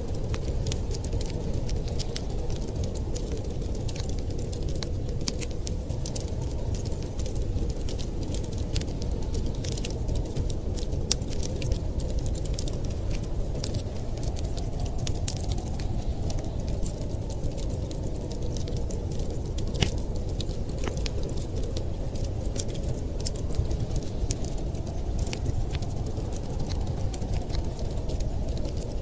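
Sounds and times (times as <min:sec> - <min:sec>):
fire crackling and popping: 0:00.0 - 0:29.0
low fire rumble: 0:00.0 - 0:29.0.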